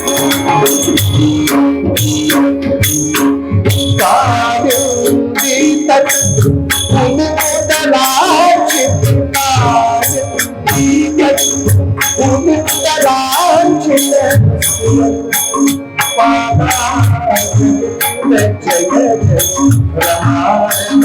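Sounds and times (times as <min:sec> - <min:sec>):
hand percussion: 0:00.0 - 0:21.0
devotional singing: 0:04.0 - 0:21.0.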